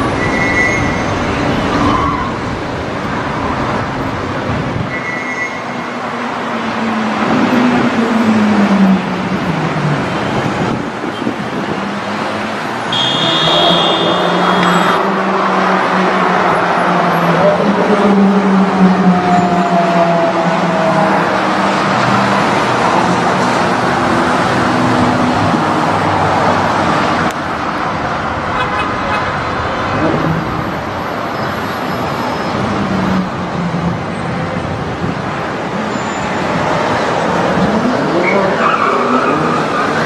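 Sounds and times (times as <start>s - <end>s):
street traffic: 0.0s - 40.0s.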